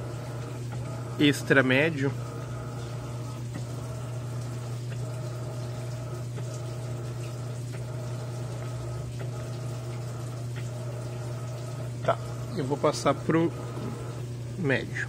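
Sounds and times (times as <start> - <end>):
water rushing into washing machine: 0.0 - 15.0.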